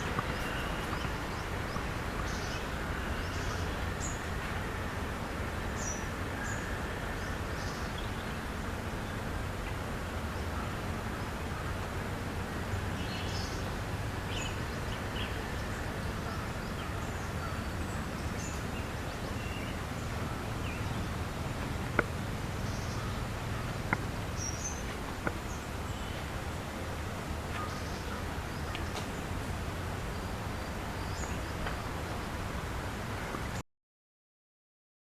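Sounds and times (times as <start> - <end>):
low rumble of background noise: 0.0 - 33.6.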